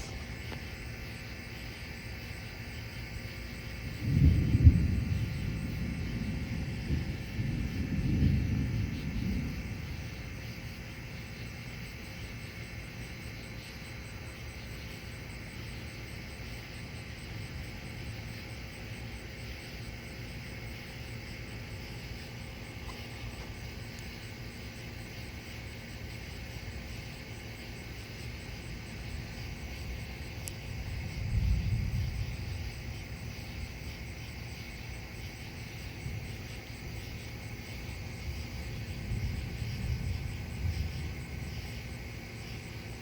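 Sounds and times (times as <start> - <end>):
crickets and insects chirping: 0.0 - 43.0.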